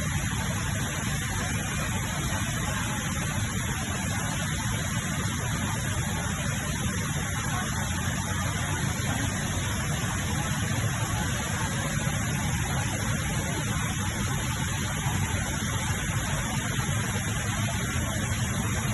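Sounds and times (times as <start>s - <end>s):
indoor waterfall roaring: 0.0s - 18.9s.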